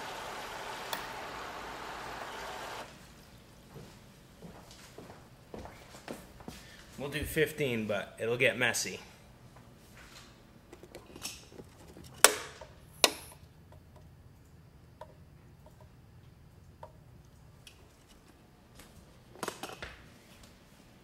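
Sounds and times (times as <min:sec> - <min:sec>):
low steady hum: 0:00.0 - 0:19.4.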